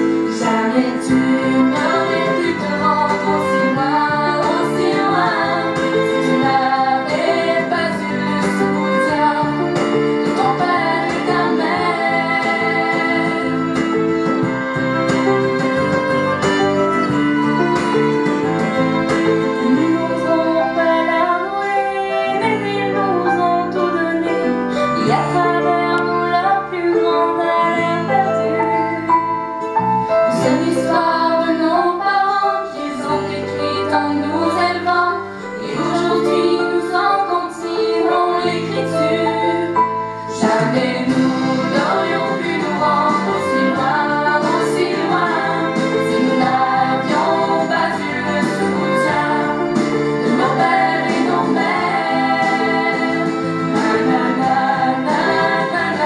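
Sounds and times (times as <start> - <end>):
woman singing: 0.0 - 13.9, 19.4 - 29.2, 30.3 - 56.0
piano chords: 0.0 - 56.0.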